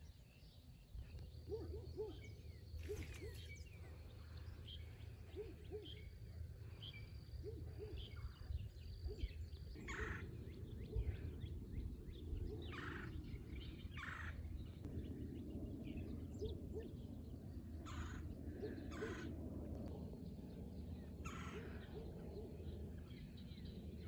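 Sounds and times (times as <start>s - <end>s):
low soft bird calls: 0.0s - 24.0s.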